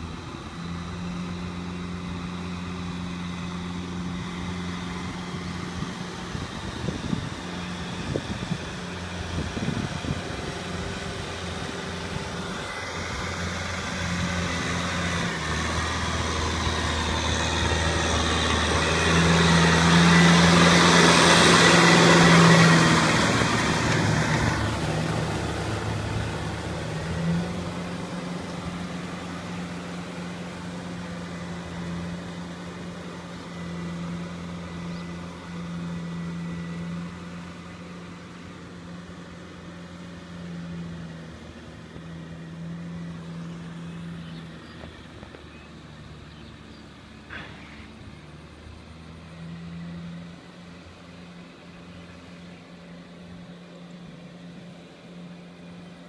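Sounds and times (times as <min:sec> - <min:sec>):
tiller churning wet soil: 0:00.0 - 0:56.0
tractor engine running: 0:00.0 - 0:56.0.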